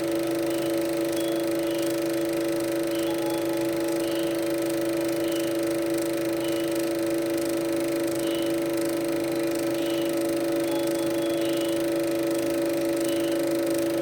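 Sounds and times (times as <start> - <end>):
electronic drone of held tones: 0.3 - 14.0.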